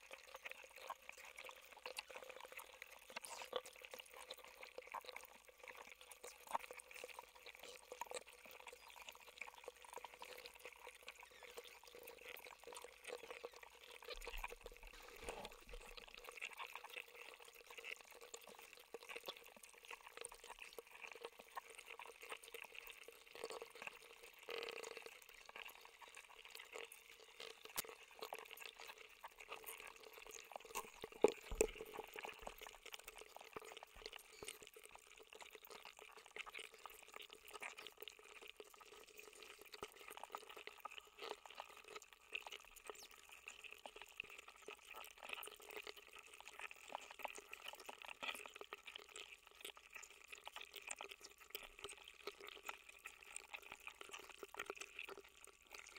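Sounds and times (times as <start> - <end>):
melting ice crackling: 11.0 - 55.9.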